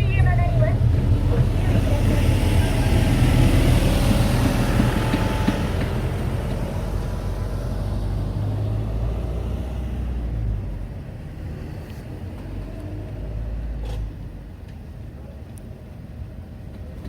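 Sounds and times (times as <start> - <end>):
vehicle engine low rumble: 0.0 - 17.0.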